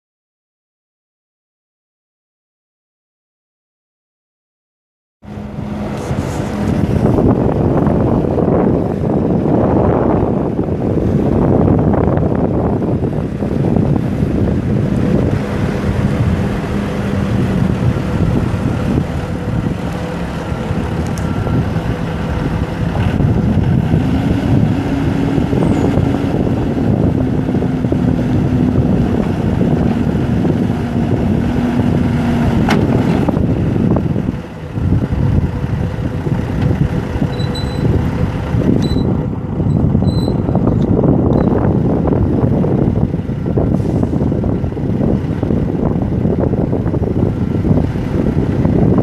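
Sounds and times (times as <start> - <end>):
diesel engine running: 5.2 - 49.0.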